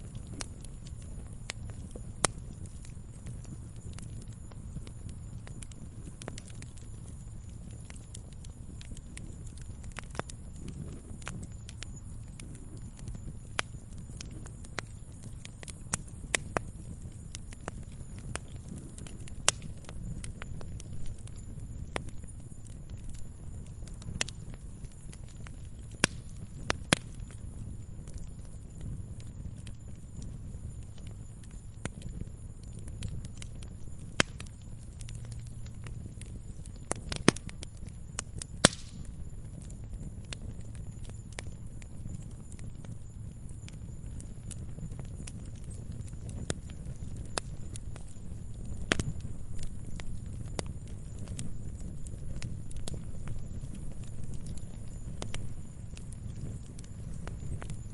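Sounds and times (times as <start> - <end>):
fire crackling and popping: 0.0 - 57.9
wood fire burning: 0.0 - 57.9.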